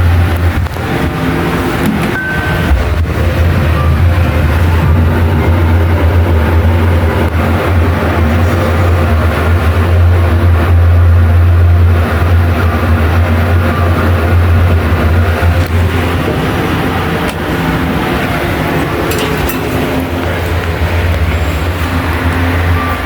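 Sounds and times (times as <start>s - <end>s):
elevator ventilation fan humming: 0.0s - 23.0s.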